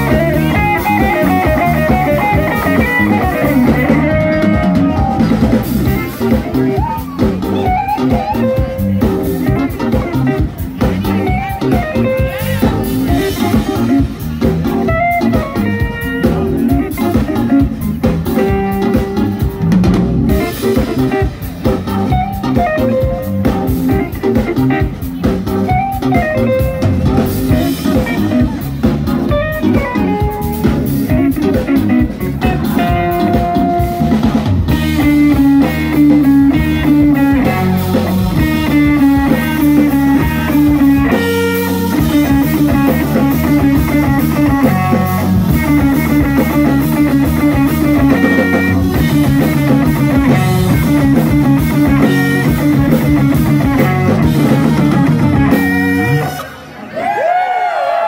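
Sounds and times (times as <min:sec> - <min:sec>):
drum kit: 0:00.0 - 0:57.1
bass guitar: 0:00.0 - 0:58.0
electric guitar line: 0:00.0 - 0:58.0
keyboards: 0:00.0 - 0:58.0.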